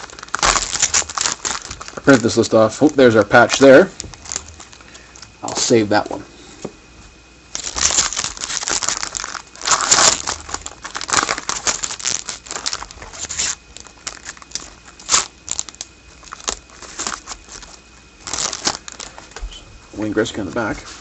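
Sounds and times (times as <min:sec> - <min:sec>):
foil wrapper crinkling and tearing: 0:00.0 - 0:05.3, 0:07.5 - 0:19.3.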